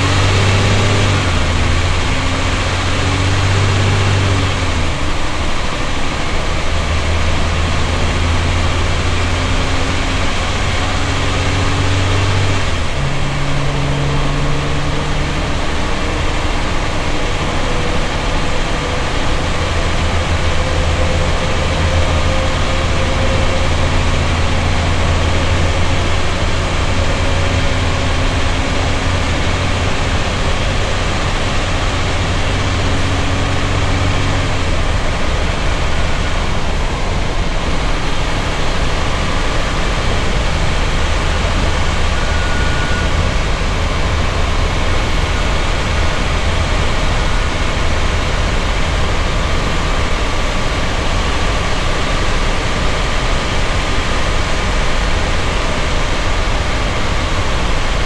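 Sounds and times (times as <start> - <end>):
diesel bus engine drone: 0.0 - 58.0
road and wind noise: 0.0 - 58.0.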